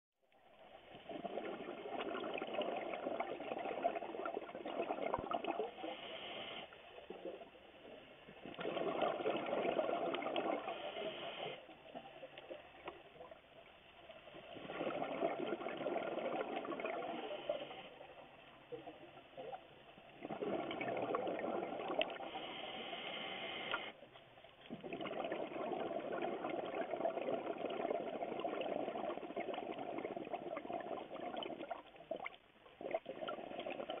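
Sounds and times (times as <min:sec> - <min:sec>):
underwater exhaled bubbles: 0:00.5 - 0:24.0, 0:24.6 - 0:34.0.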